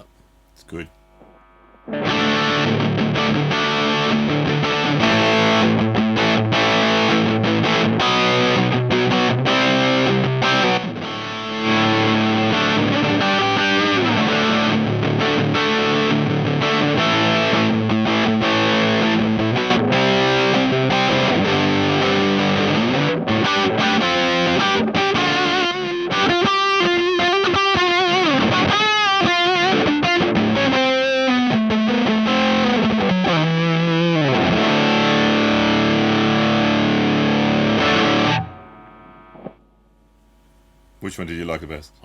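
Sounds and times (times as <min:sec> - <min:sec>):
distorted electric guitar riffing: 0:00.0 - 0:39.6.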